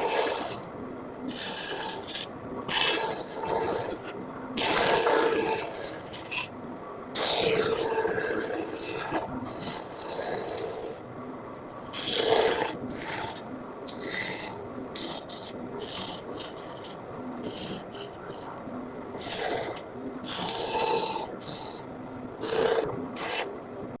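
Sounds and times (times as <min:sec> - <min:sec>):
carving tool scraping wood: 0:00.0 - 0:00.7, 0:01.3 - 0:06.5, 0:07.2 - 0:11.0, 0:11.9 - 0:18.6, 0:19.2 - 0:21.8, 0:22.4 - 0:23.5.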